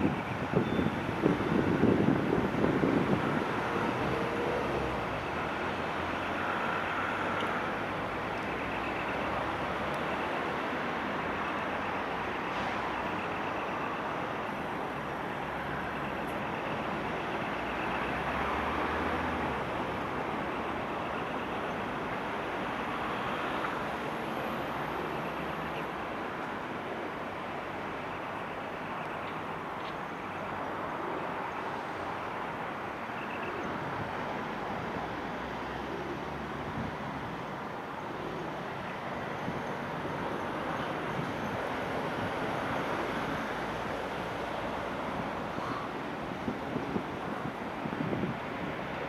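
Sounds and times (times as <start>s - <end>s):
distant road traffic rumble: 0.0s - 49.0s.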